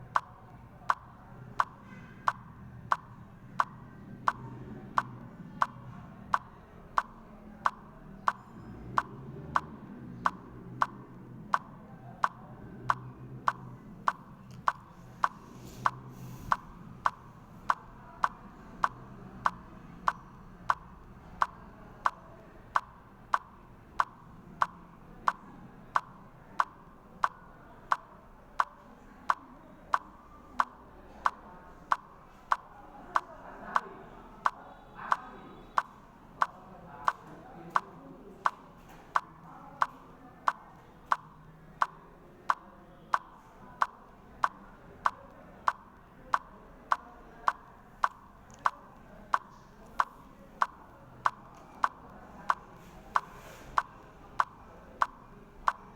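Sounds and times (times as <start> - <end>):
sharp evenly spaced clicks: 0.0 - 55.9.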